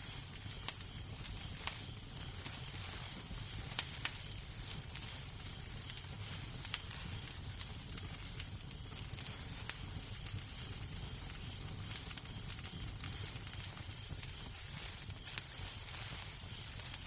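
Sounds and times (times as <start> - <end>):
fire pops and snaps: 0.0 - 17.0
low fire rumble: 0.0 - 17.0
soft fire hiss: 0.0 - 17.0.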